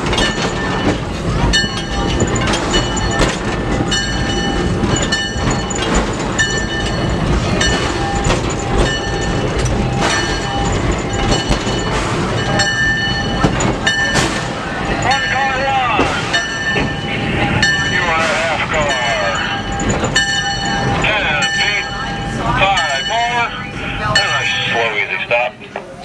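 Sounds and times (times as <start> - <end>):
metal clanks: 0.0 - 21.8.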